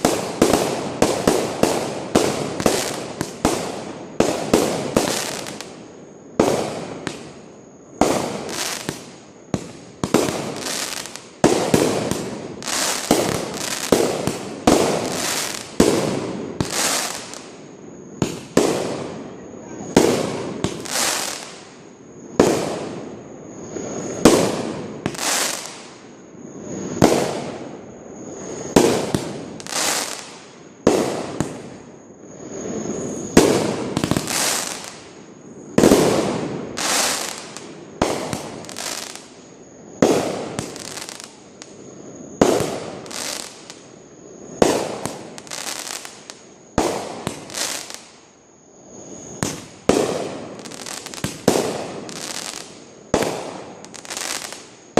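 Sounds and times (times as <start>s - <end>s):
fireworks bangs and crackle: 0.0s - 54.9s.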